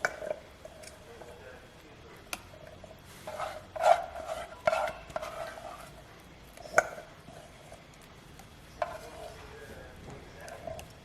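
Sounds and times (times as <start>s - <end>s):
spoon scraping a container: 0.0s - 1.5s, 2.5s - 8.1s, 8.7s - 11.0s.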